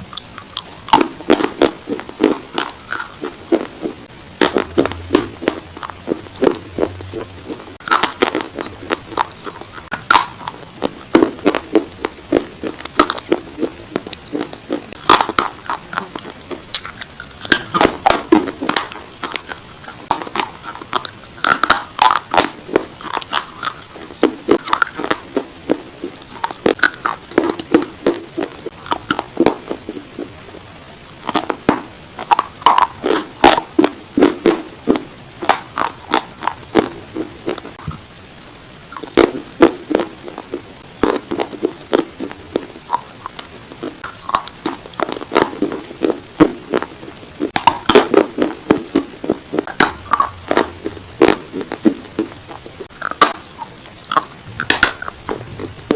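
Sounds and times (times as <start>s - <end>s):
dry clay being chewed: 0.0s - 55.9s.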